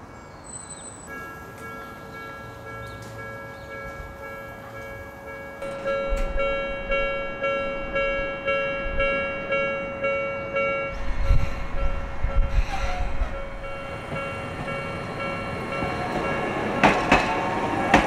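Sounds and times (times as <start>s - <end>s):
level-crossing warning bell ringing: 0.0s - 18.0s
low tram rumble: 0.0s - 18.0s.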